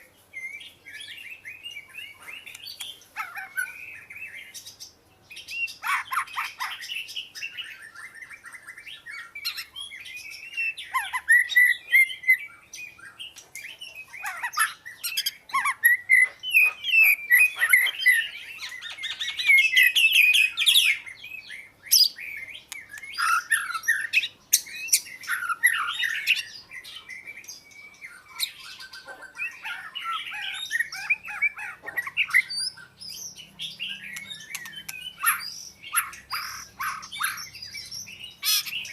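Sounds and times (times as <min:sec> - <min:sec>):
songbird singing whistled trills: 0:00.0 - 0:38.9.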